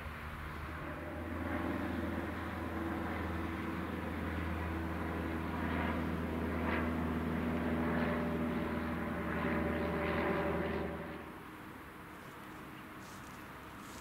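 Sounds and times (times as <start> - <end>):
low hum: 0.0 - 12.0
low engine drone: 0.0 - 14.0.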